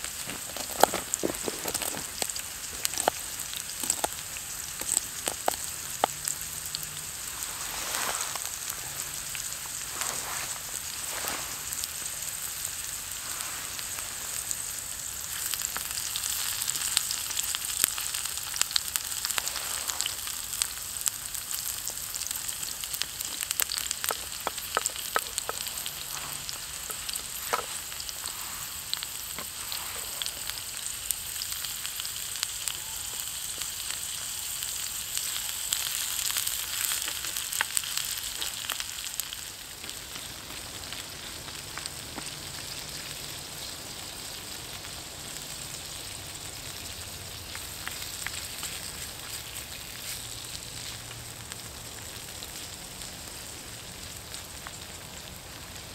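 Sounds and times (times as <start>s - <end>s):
vegetables sizzling in a pan: 0.0s - 55.9s.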